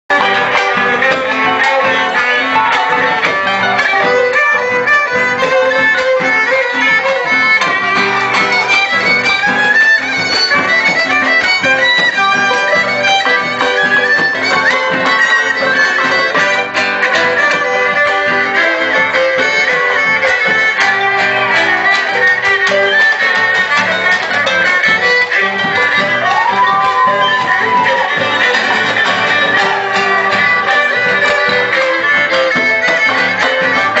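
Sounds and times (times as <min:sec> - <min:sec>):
strummed guitars: 0:00.1 - 0:34.0
violin melody: 0:00.1 - 0:34.0.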